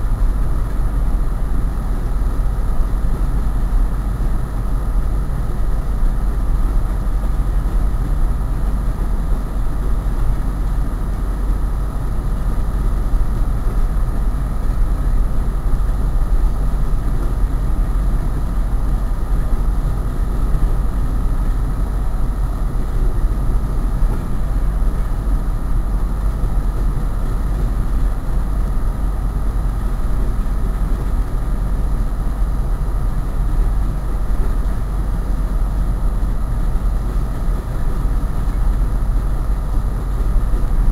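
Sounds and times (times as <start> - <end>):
diesel locomotive rumbling: 0.0 - 40.9
steady hum: 0.0 - 40.9.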